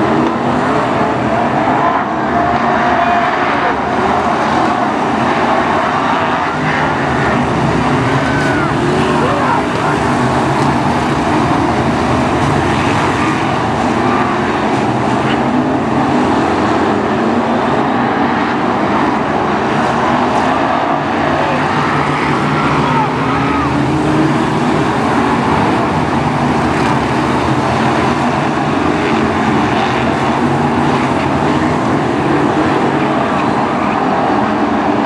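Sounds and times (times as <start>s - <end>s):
race car engines roaring: 0.0s - 35.0s.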